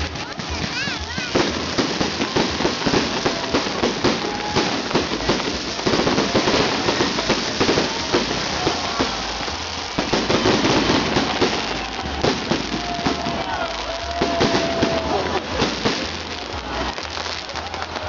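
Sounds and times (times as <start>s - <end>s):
fireworks crackling and popping: 0.0s - 18.0s
firework whistles: 0.1s - 18.0s.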